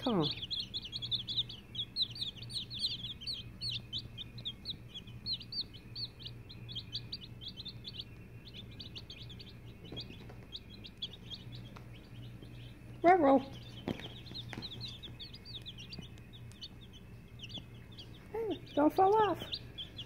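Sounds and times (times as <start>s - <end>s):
baby chicks peeping: 0.0s - 20.0s
low steady hum: 0.0s - 20.0s.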